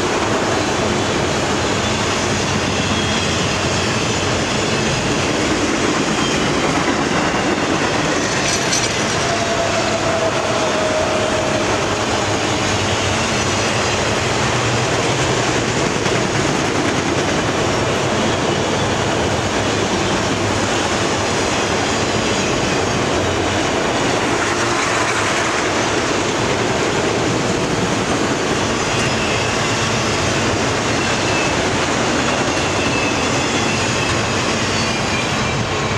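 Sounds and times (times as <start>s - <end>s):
steel wheels rumbling on rail: 0.0s - 35.9s.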